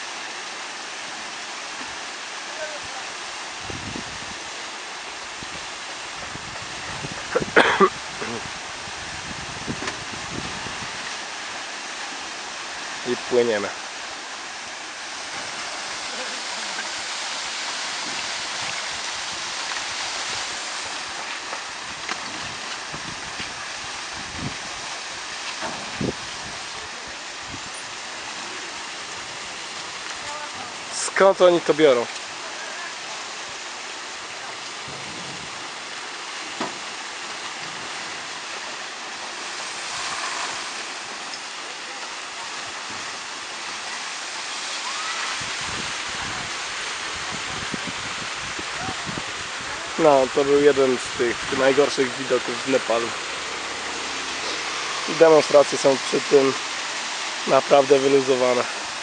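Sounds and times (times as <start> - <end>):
stream water cascading: 0.0 - 59.0.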